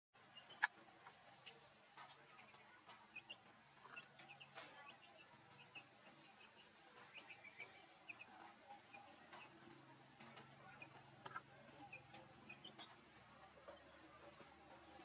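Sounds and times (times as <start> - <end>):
bird chirps: 0.3 - 0.7, 1.3 - 9.7, 10.3 - 15.0.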